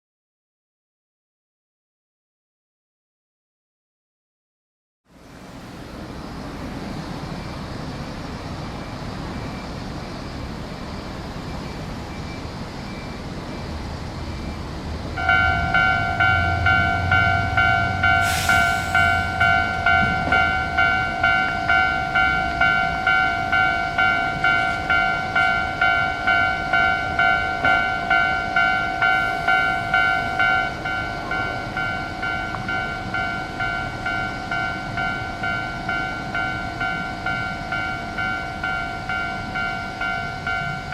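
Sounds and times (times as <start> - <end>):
road noise: 5.1 - 40.9.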